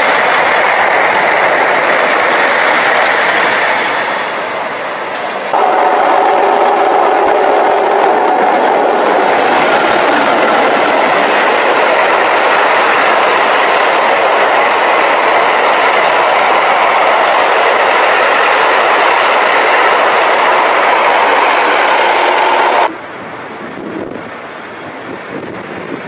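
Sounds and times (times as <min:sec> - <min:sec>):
freight train passing: 0:00.0 - 0:26.0.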